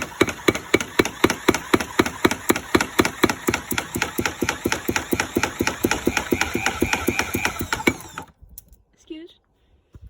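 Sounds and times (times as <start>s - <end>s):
power hammer striking rapidly: 0.0s - 8.3s.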